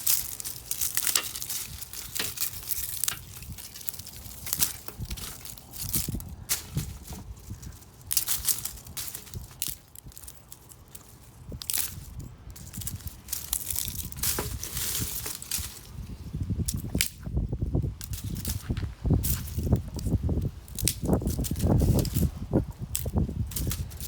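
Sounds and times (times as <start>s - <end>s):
wooden branches snapping: 0.0s - 24.0s.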